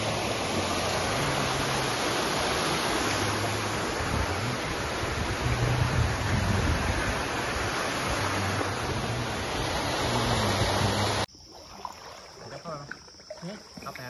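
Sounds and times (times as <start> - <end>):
fast-flowing stream water: 0.0 - 14.0.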